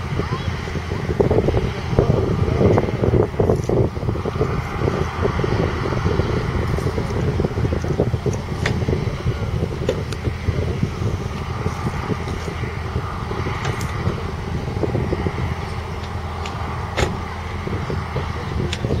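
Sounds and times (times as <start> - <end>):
combine harvester diesel engine rumbling: 0.0 - 19.0.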